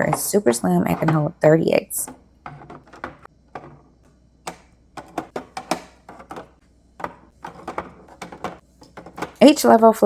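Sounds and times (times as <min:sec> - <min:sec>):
eggs tapping plastic egg holder: 0:00.0 - 0:09.6.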